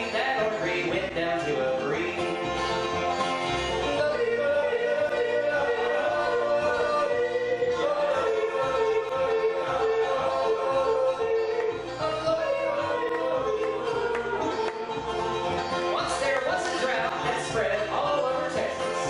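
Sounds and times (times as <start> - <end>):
bluegrass band playing: 0.0 - 19.0
double bass: 0.0 - 19.0
strummed guitar: 0.0 - 19.0.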